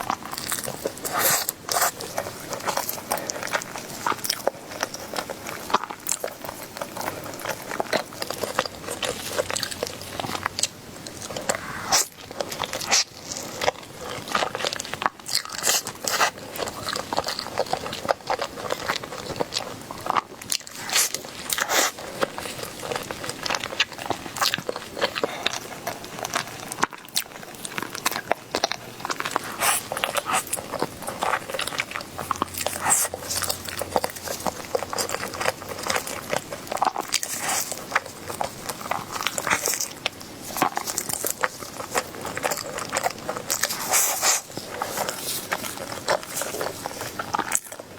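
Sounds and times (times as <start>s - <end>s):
person chewing crunchy food: 0.0s - 47.9s.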